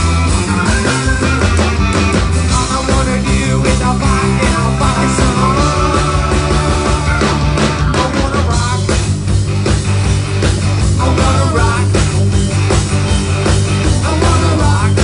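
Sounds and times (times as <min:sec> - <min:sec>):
electric guitar lead: 0:00.0 - 0:15.0
live rock band playing: 0:00.0 - 0:15.0.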